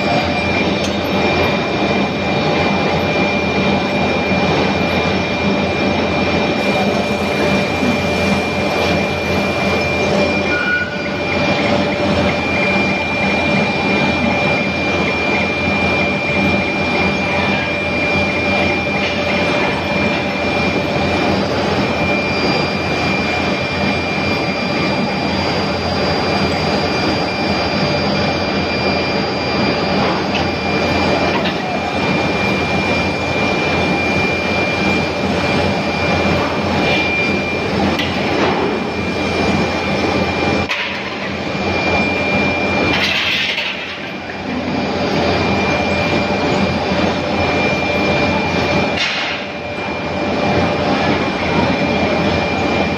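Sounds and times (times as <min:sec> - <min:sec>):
high whine: 0:00.0 - 0:52.9.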